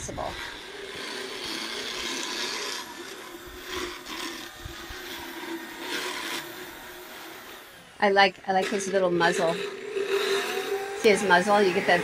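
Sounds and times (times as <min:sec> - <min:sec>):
grinding teeth: 0:00.0 - 0:07.8, 0:08.6 - 0:12.0
drill motor whine: 0:00.0 - 0:12.0.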